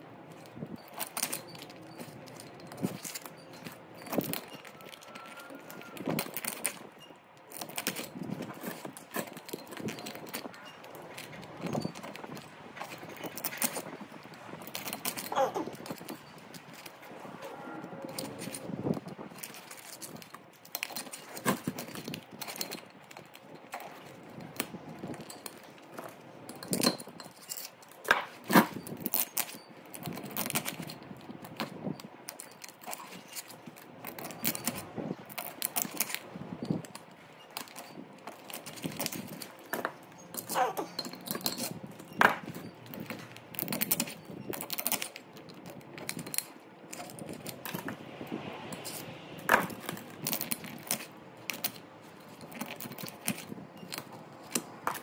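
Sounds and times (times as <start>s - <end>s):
hand tools clinking on metal: 0.3s - 55.0s.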